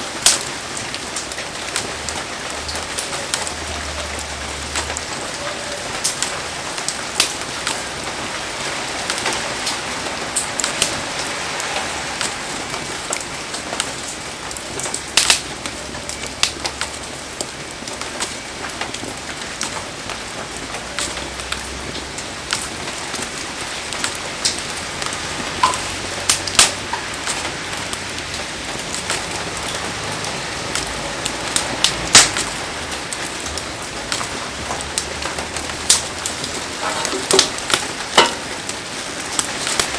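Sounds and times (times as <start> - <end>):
fire crackling and popping: 0.0 - 39.9
heavy rain falling: 0.0 - 39.9.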